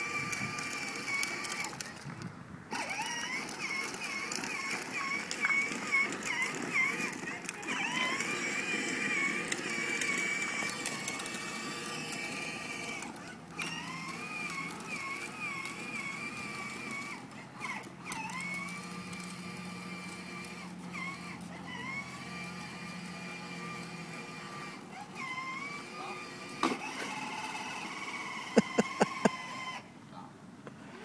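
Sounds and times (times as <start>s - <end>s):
toy ride-on electric motor whining: 0.0s - 29.9s.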